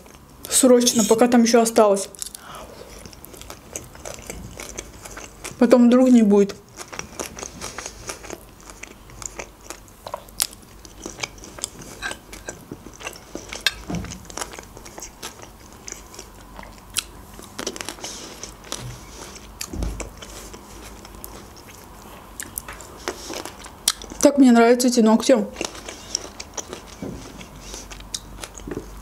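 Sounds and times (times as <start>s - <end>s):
chewing crunchy salad: 2.1s - 24.3s, 25.2s - 29.0s.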